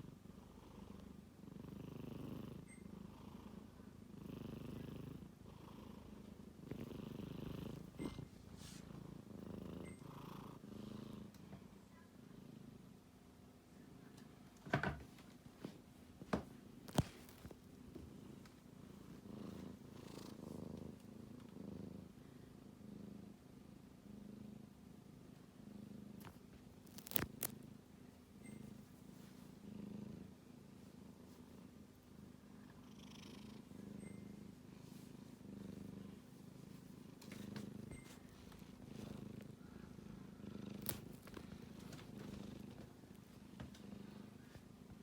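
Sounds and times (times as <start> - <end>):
kitten snoring softly: 0.0 - 13.1, 16.8 - 45.0.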